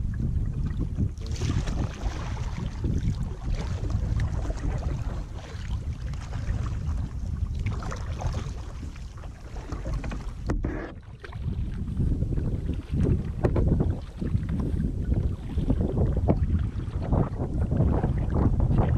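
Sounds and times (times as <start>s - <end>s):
low rumble: 0.0s - 18.9s
paddle splashing in water: 0.5s - 18.9s.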